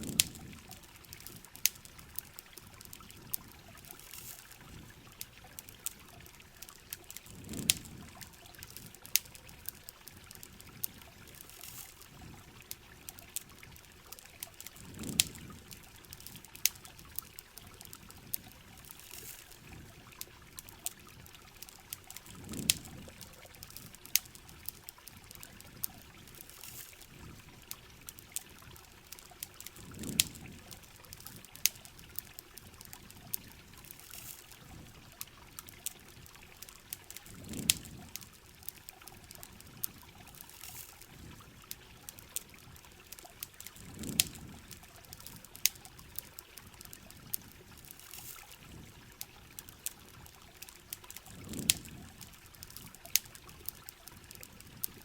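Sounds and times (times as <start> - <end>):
campfire crackling and popping: 0.0 - 55.0
steady rain: 0.0 - 55.0
trickling water: 0.0 - 55.0.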